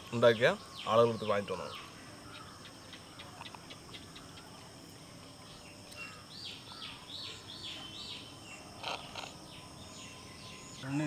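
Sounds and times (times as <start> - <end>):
insect hum: 0.0 - 11.0.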